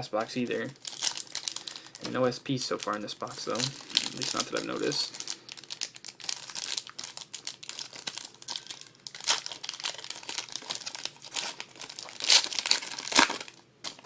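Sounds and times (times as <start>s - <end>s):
card pack wrappers crinkling: 0.0s - 14.0s.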